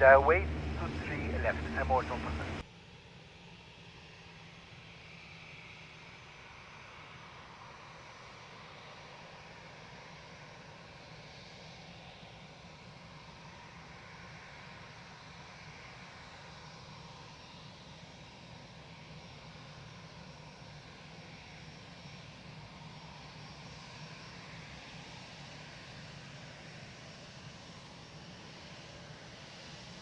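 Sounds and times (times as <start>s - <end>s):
faint airliner engines: 0.0s - 30.0s.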